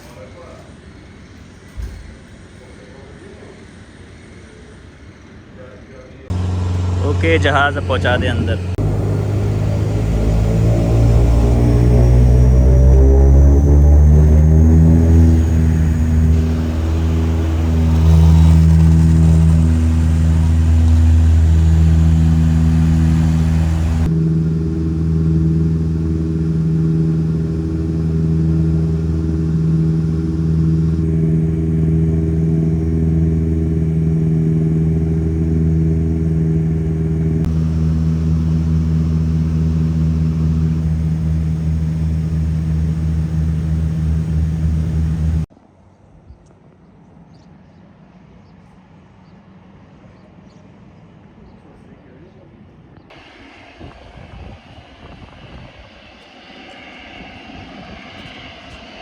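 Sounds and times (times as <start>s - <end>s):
turboprop engines droning: 0.3s - 45.5s, 53.1s - 59.0s.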